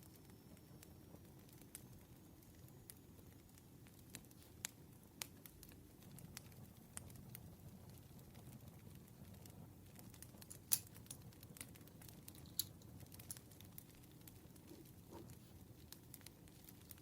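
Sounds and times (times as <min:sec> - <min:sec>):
campfire crackling: 0:00.0 - 0:17.0
low rumble of burning wood: 0:00.0 - 0:17.0.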